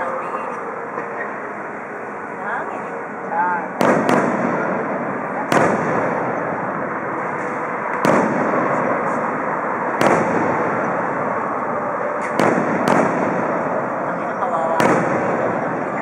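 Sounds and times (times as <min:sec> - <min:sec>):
continuous fireworks din: 0:00.0 - 0:16.0.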